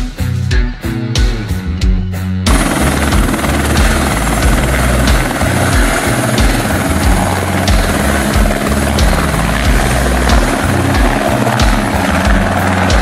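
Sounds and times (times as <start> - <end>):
music: 0.0 - 13.0
helicopter hovering: 2.5 - 13.0.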